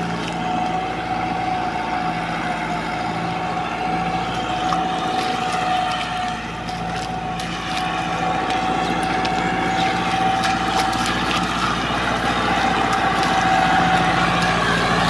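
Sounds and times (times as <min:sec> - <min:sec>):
combine harvester engine hum: 0:00.0 - 0:15.0.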